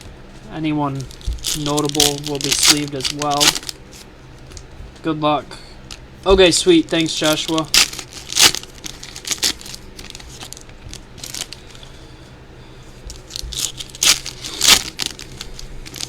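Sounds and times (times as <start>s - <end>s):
foil wrappers crinkling: 0.4s - 4.7s, 5.9s - 12.2s, 12.8s - 16.0s.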